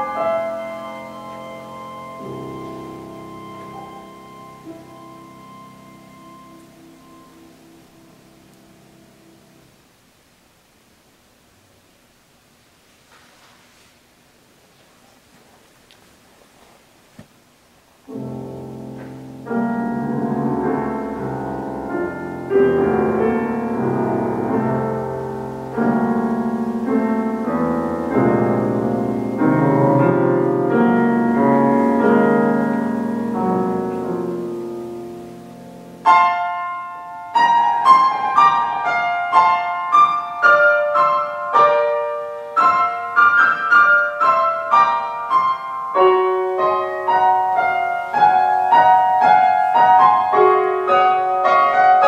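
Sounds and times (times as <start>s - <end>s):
piano playing: 0.0s - 9.9s, 18.0s - 52.0s.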